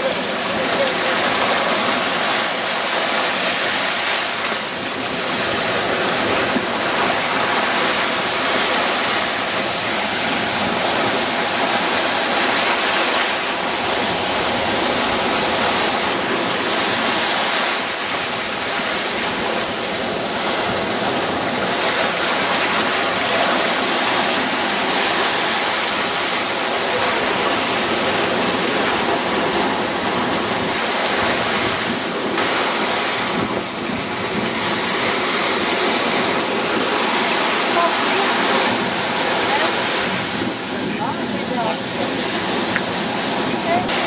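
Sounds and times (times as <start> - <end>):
surf breaking: 0.0 - 44.0.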